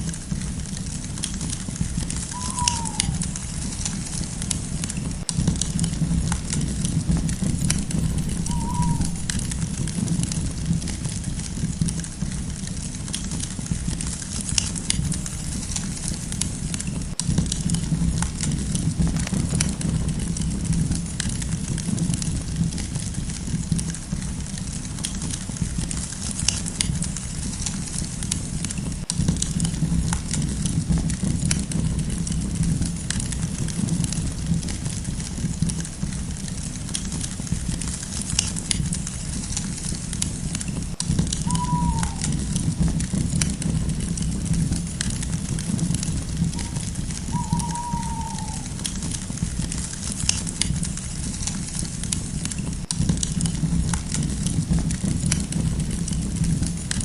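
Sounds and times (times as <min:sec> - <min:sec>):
campfire crackling and popping: 0:00.0 - 0:57.0
low rumble of burning: 0:00.0 - 0:57.0.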